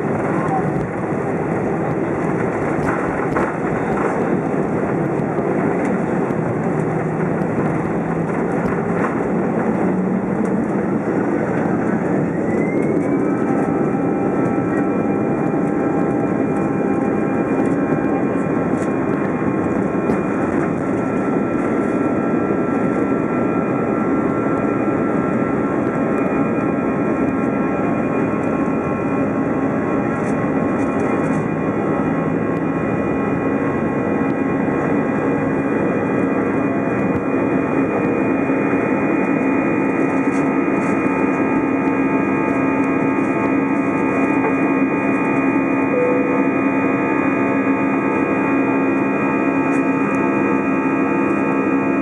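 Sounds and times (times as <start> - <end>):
jet engine whine: 0.0 - 52.0.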